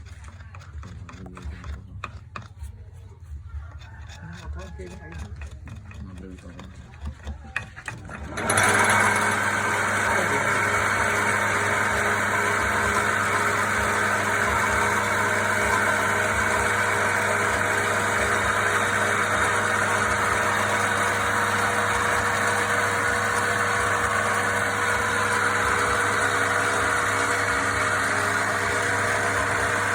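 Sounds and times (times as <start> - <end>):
wood lathe motor humming: 0.0 - 2.6, 3.8 - 29.9.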